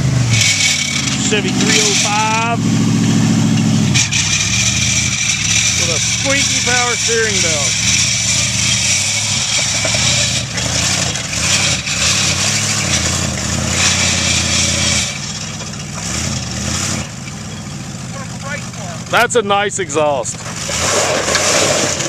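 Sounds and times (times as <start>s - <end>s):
loud open car engine revving: 0.0s - 22.0s.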